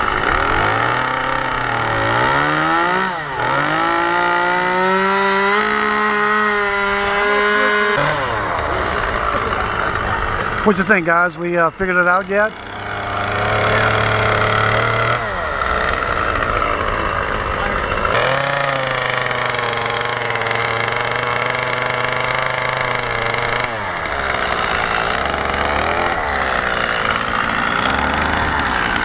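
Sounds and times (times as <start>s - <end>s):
chainsaw carving wood: 0.0s - 29.0s.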